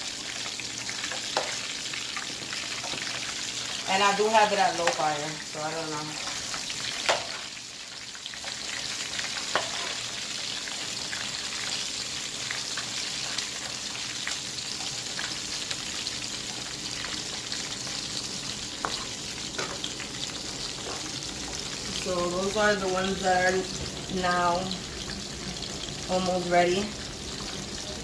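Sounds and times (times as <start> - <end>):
chicken wings sizzling in oil: 0.0 - 28.0.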